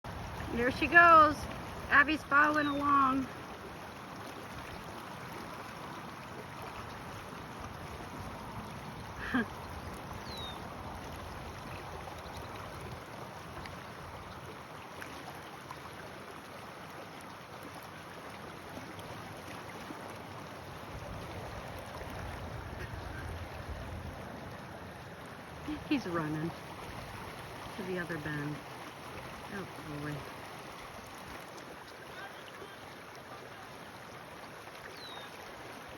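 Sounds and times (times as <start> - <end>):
creek water rushing: 0.1 - 35.9.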